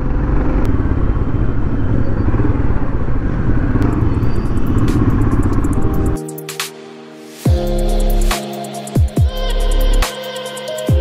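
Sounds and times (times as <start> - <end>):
road noise: 0.0 - 10.0
wind: 0.0 - 11.0.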